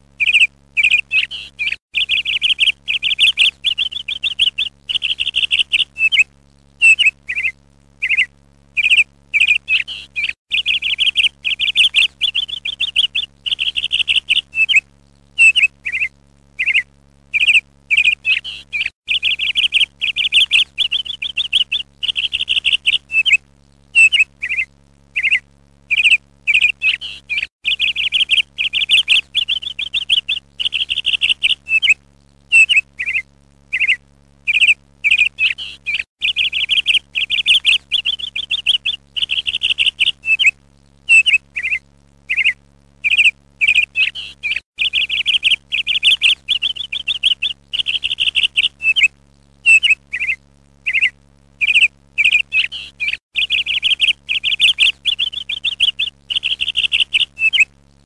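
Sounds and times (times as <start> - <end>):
songbird chirping and trilling: 0.2 - 57.7.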